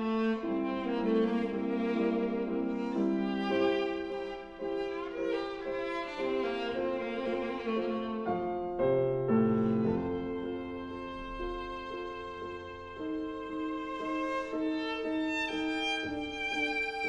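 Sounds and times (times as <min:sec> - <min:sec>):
viola bowed melody: 0:00.0 - 0:17.0.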